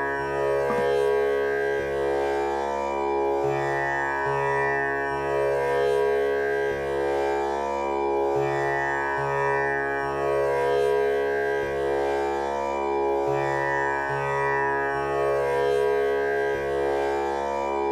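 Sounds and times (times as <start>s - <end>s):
tanpura drone: 0.0s - 17.9s.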